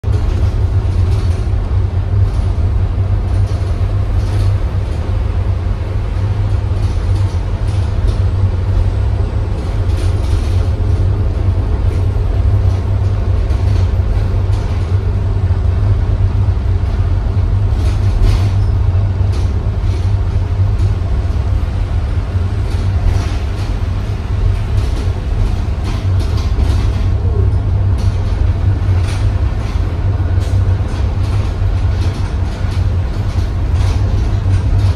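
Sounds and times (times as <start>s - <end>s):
bus body rattling: 0.0s - 34.9s
bus engine drone: 0.0s - 34.9s
road noise: 2.2s - 34.9s.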